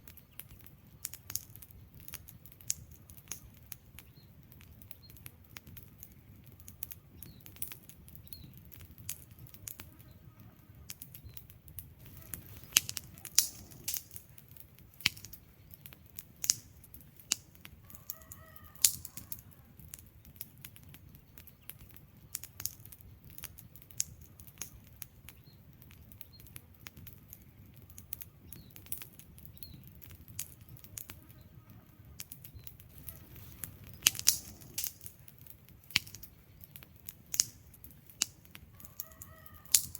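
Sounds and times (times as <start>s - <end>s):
burning logs crackling: 0.0s - 39.9s
flames rustling: 0.0s - 39.9s.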